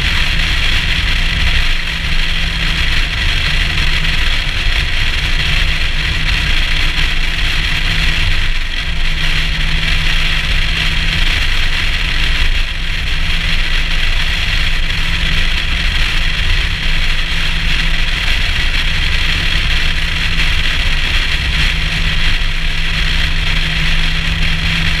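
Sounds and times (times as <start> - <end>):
car engine hum: 0.0 - 25.0
road and wind noise: 0.0 - 25.0.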